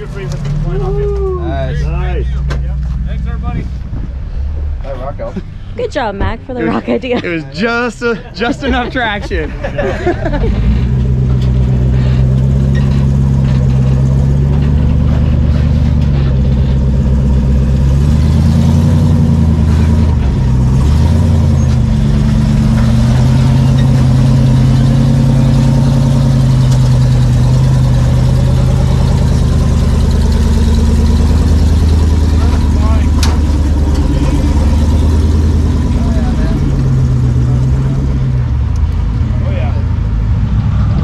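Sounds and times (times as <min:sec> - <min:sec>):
engine running at low revs: 0:00.0 - 0:41.0.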